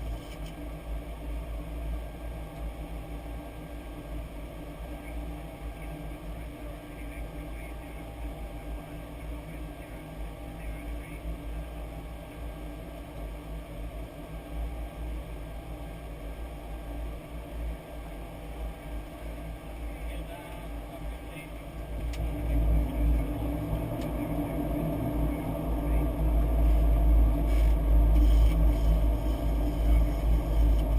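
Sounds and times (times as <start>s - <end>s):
low aircraft rumble: 0.0s - 30.9s.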